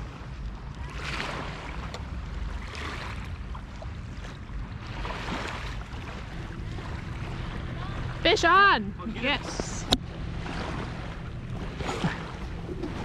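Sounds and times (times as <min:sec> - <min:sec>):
wind rumble on microphone: 0:00.0 - 0:13.0
small waves washing on sand: 0:00.8 - 0:13.0.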